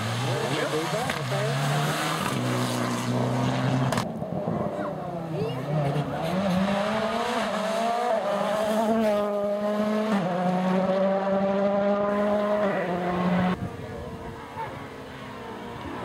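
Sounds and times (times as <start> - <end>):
rally car engine passing: 0.0 - 16.0.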